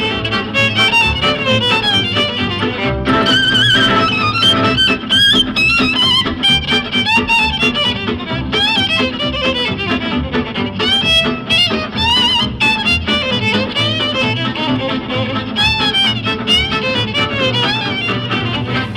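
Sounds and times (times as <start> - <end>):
upbeat fiddle tune with bass: 0.0 - 18.9.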